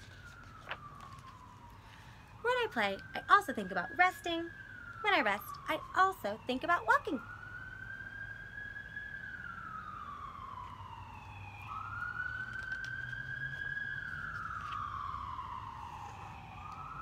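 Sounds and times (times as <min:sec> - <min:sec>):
emergency vehicle siren wailing: 0:00.0 - 0:17.0.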